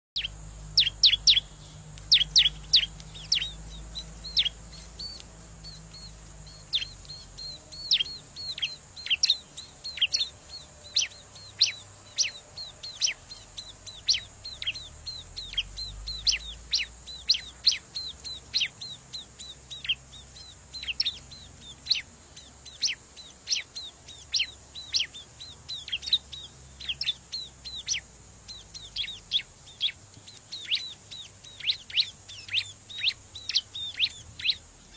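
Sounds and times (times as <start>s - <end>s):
bird chirping rapidly: 0.2s - 34.9s.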